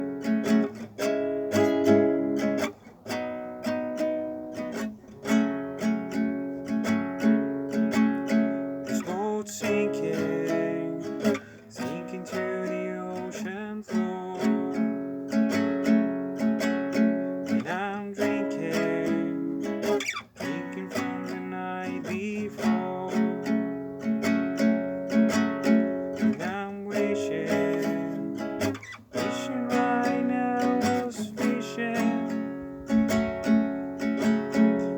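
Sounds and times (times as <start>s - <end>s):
acoustic guitar strumming chords: 0.0s - 34.9s.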